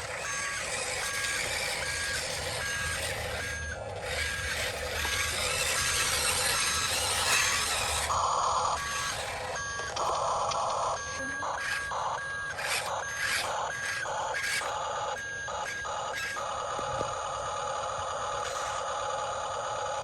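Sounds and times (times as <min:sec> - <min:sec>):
small electric motors whirring: 0:00.0 - 0:20.0.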